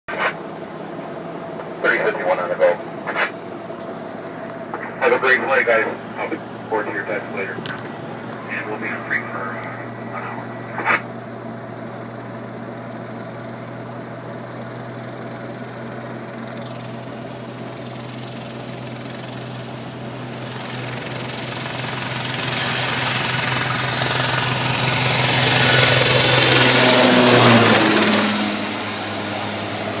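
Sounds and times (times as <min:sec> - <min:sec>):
helicopter flying by: 0:00.2 - 0:30.0.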